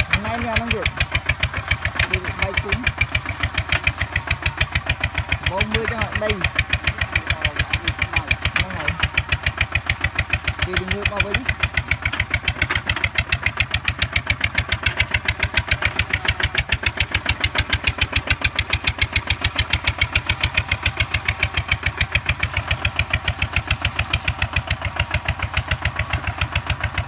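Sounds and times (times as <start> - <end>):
diesel tractor engine running: 0.0 - 27.0.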